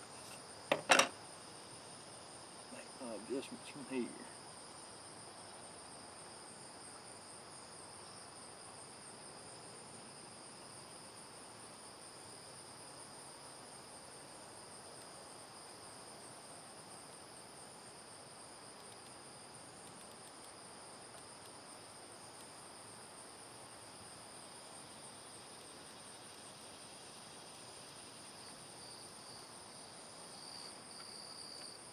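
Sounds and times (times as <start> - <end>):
insect trills: 0.0 - 8.8, 9.6 - 31.9
soft background hiss: 0.0 - 31.9.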